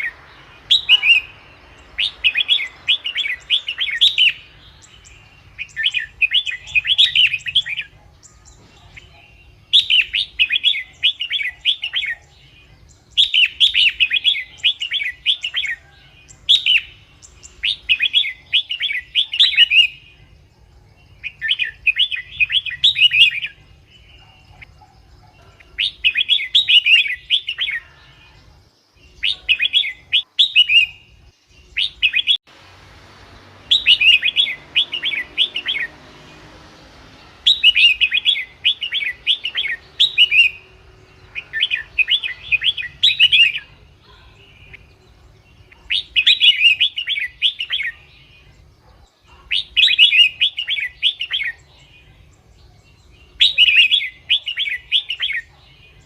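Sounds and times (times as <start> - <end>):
bird singing song phrases: 0.0 - 56.0.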